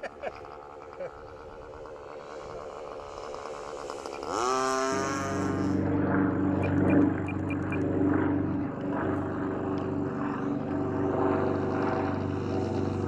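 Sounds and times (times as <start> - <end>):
model airplane motor drone: 0.0 - 13.0.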